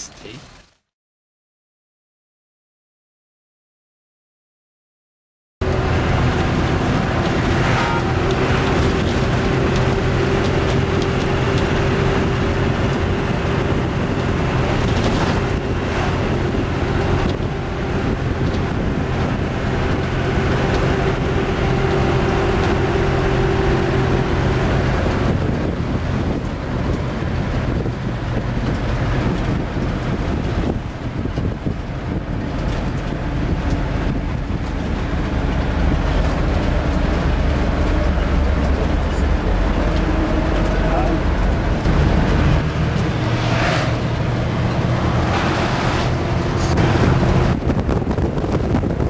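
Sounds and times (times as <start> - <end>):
vehicle engine and road noise: 0.0 - 0.9, 5.6 - 49.0
wind rushing over microphone: 5.6 - 49.0.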